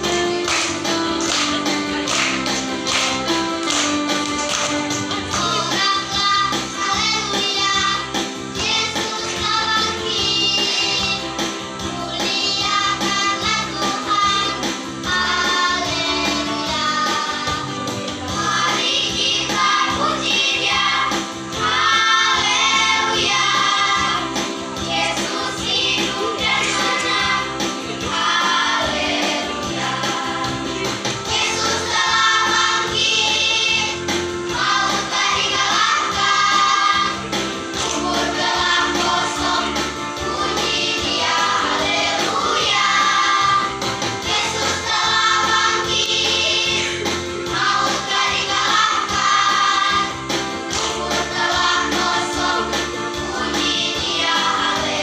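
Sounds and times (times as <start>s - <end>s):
children's choir singing: 0.0s - 55.0s
musical accompaniment with steady beat: 0.0s - 55.0s.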